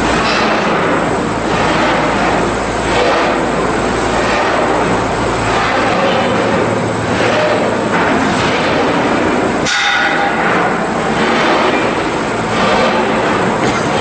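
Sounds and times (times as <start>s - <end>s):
shipyard machinery noise: 0.0s - 14.0s.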